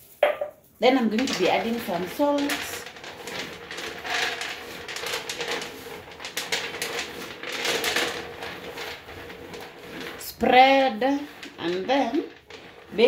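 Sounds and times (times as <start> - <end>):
peanuts rattling on metal tray: 0.8 - 13.0.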